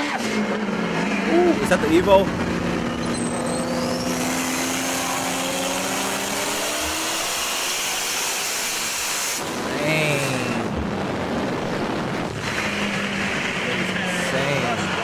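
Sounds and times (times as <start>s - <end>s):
racing car engines at full throttle: 0.0s - 15.0s
wind and road noise: 0.0s - 15.0s.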